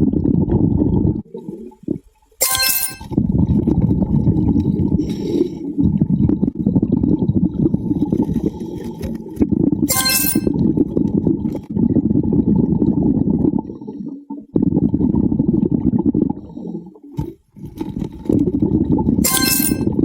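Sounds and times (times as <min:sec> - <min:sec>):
underwater bubbles rumbling: 0:00.0 - 0:02.1, 0:03.1 - 0:09.9, 0:10.6 - 0:19.2.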